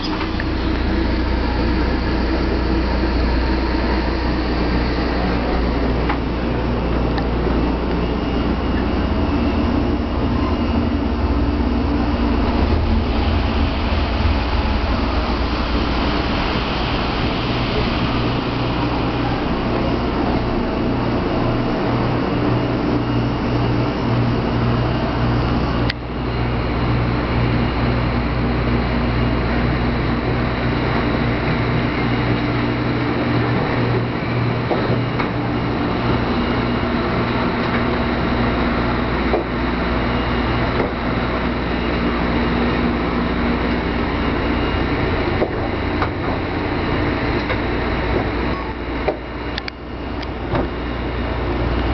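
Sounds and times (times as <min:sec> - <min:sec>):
stationary train humming: 0:00.0 - 0:51.9.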